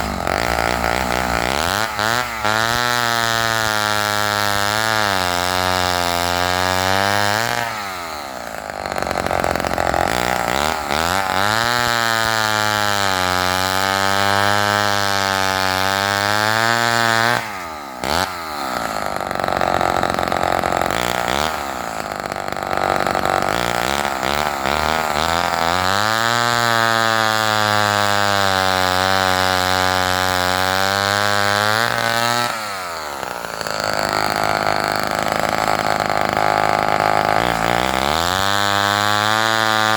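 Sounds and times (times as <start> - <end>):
chainsaw running at high revs: 0.0 - 39.9.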